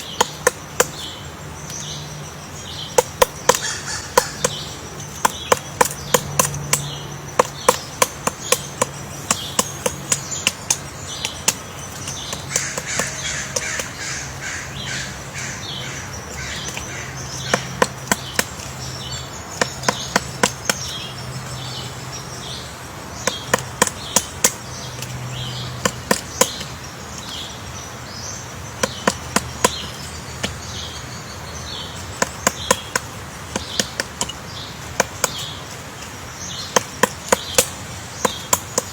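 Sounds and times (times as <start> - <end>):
birds chirping: 0.0 - 38.9
woodpecker tapping on wood: 0.0 - 38.9.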